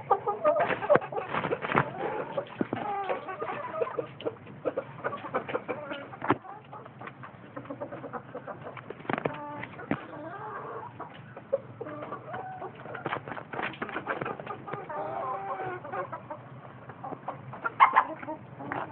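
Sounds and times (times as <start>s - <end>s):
roosters clucking: 0.0s - 18.9s.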